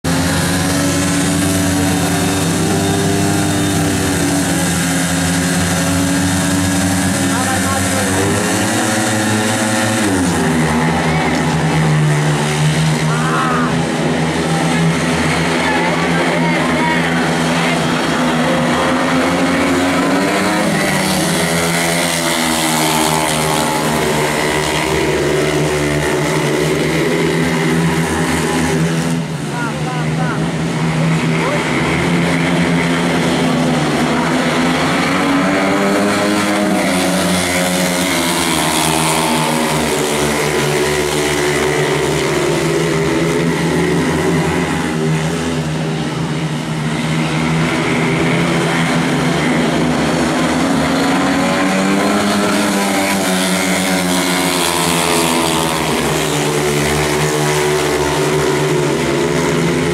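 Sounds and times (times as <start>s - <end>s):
motorcycle engines revving high: 0.0s - 59.9s.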